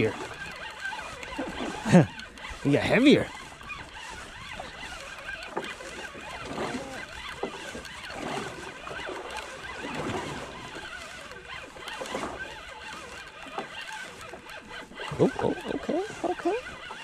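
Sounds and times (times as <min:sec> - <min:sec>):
wind and water wash: 0:00.0 - 0:17.0.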